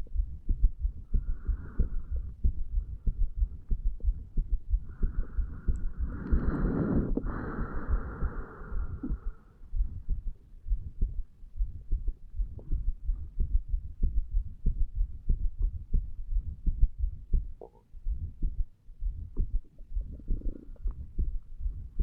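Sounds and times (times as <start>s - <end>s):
heartbeat thumps: 0.0s - 22.0s.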